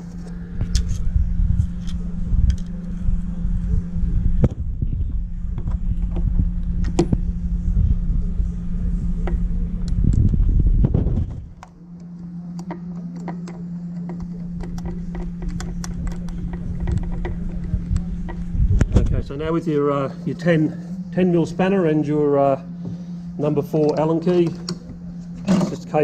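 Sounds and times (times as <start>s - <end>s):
low rumble: 0.0s - 11.9s, 14.1s - 23.5s
steady low hum: 0.0s - 26.0s.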